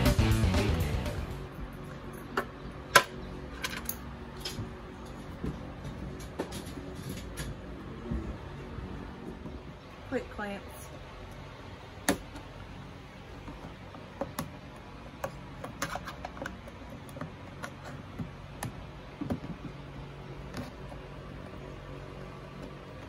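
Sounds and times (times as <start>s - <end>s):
faint low hum: 1.2s - 23.0s.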